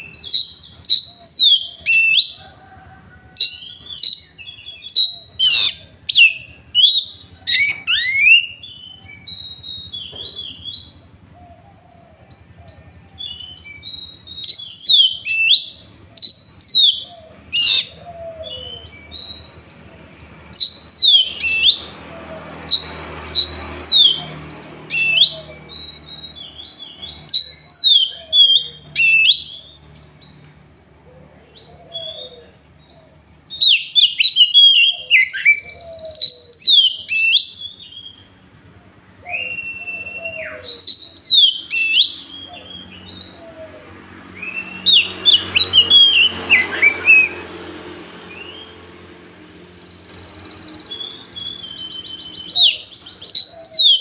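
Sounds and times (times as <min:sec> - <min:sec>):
bird singing whistles and chirps: 0:00.0 - 0:02.4, 0:03.4 - 0:11.0, 0:13.1 - 0:19.9, 0:20.5 - 0:30.5, 0:31.7 - 0:38.3, 0:39.2 - 0:43.7, 0:44.3 - 0:47.4, 0:50.2 - 0:54.0.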